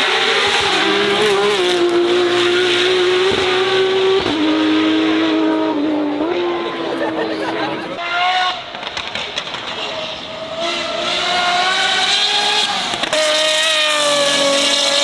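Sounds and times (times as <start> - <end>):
racing car engines revving: 0.0 - 15.0.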